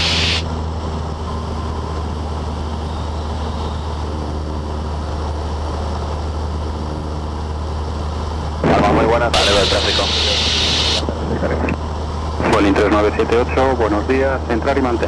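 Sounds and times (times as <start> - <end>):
airplane engine droning in cabin: 0.0 - 15.0.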